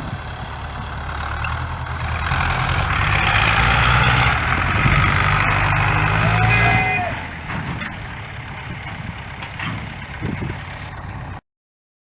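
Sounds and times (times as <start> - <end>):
tractor diesel engine: 0.0 - 11.4.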